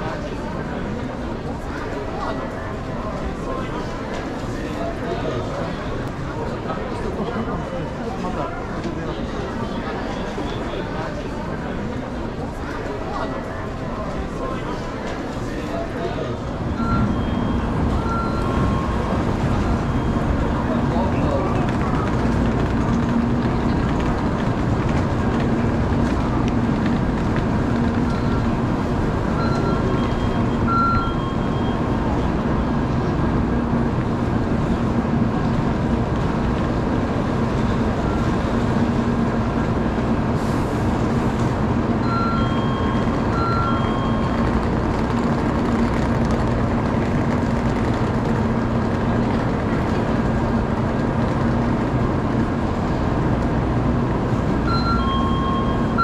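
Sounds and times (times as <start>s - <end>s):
station platform hum and rumble: 0.0s - 56.0s.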